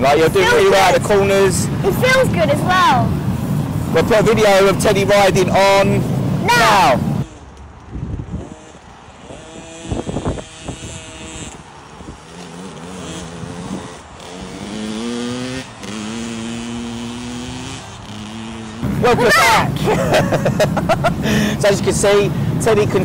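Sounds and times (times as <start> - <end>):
two-stroke motorbike accelerating: 0.0 - 23.0.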